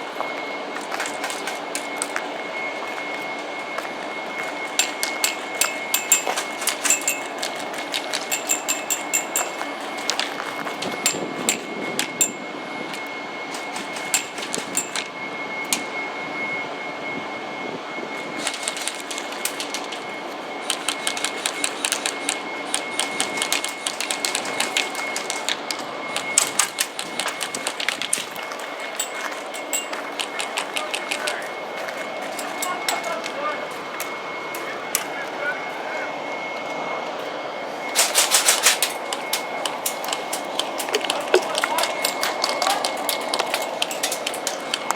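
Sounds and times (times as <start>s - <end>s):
steady high-pitched tone: 0.0s - 44.9s.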